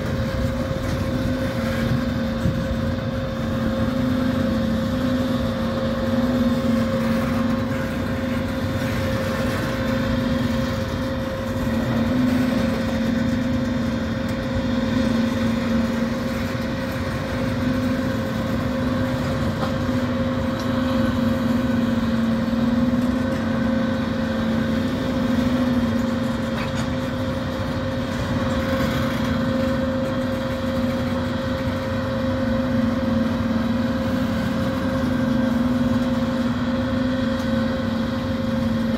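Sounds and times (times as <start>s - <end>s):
droning hum: 0.0s - 38.9s
train wheels rumbling on rails: 0.0s - 38.9s.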